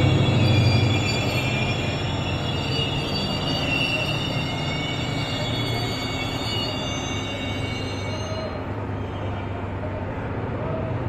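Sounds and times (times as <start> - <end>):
train rumbling: 0.0 - 11.0
wheels squealing on rails: 0.0 - 11.0.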